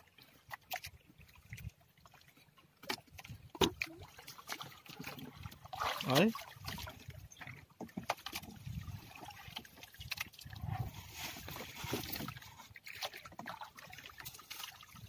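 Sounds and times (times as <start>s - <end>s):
water sloshing against boat: 0.0s - 15.0s.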